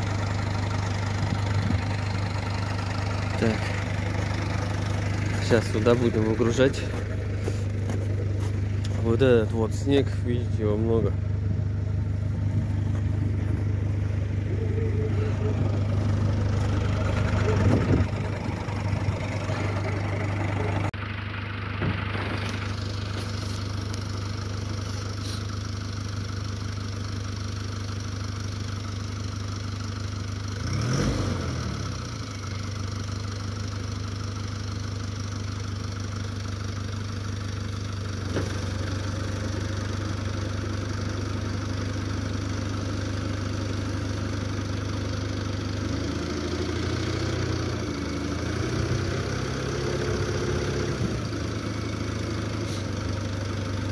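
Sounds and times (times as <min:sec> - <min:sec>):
truck diesel engine idling: 0:00.0 - 0:53.9.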